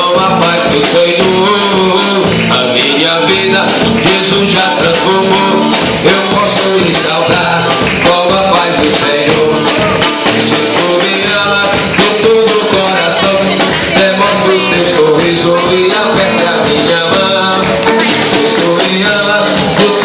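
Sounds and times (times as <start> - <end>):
band playing worship song: 0.0 - 20.0
guitar: 0.0 - 20.0
person singing: 0.0 - 20.0
shaker or tambourine: 0.0 - 20.0.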